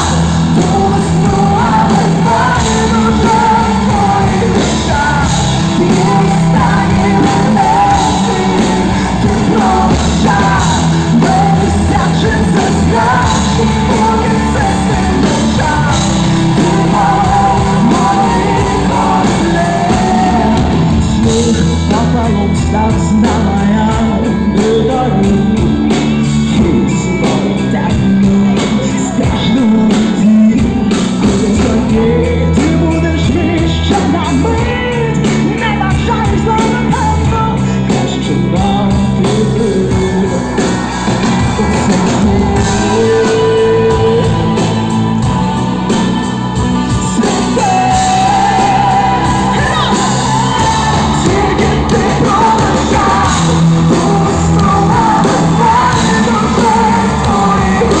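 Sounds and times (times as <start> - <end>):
live rock band playing: 0.0 - 58.0
woman singing lead: 0.0 - 58.0.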